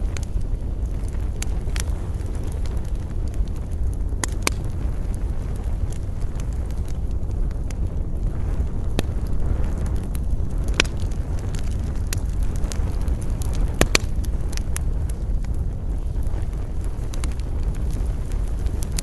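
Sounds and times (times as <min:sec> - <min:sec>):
campfire crackling and popping: 0:00.0 - 0:19.0
low rumble of wind: 0:00.0 - 0:19.0.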